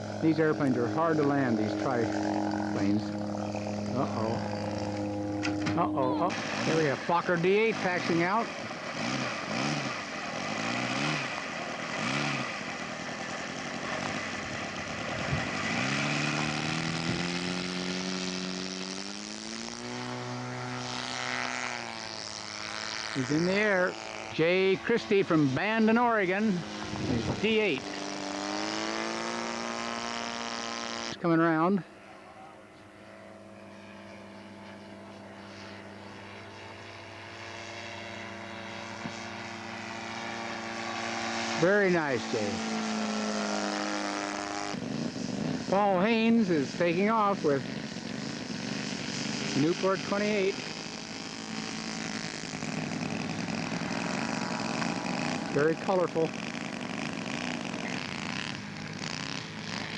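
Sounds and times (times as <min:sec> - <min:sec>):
model airplane engine revving: 0:00.0 - 0:59.9.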